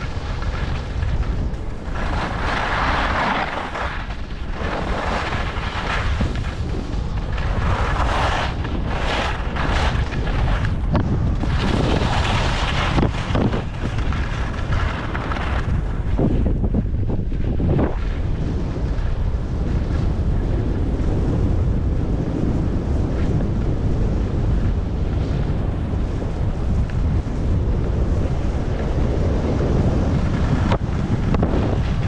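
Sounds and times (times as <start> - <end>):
skis scraping over snow: 0.0 - 32.0
wind buffeting microphone: 0.0 - 32.0.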